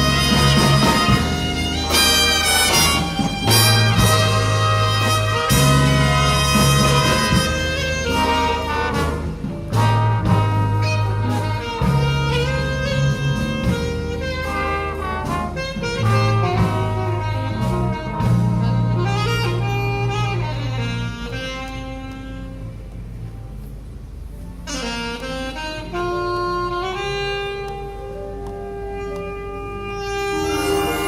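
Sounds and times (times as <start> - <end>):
drums steady beat: 0.0 - 22.0, 24.9 - 31.0
saxophones and brass melody: 0.0 - 31.0
walking bass: 0.0 - 31.0.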